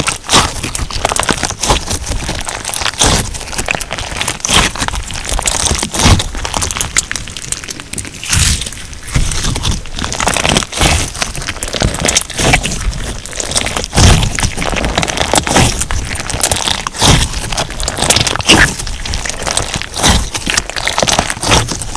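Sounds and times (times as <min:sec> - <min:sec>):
crunchy slime squeezed by hand: 0:00.0 - 0:21.9.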